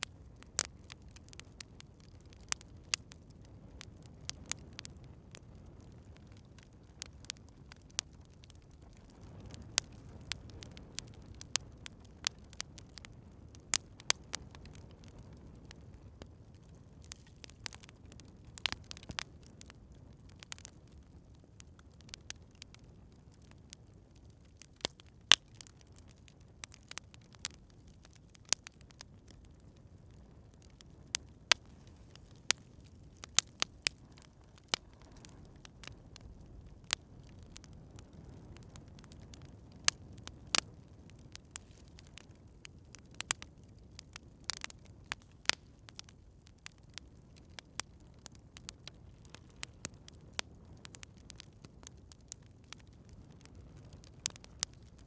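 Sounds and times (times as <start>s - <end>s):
campfire crackling and popping: 0.0s - 55.0s
rumble of burning wood: 0.0s - 55.0s.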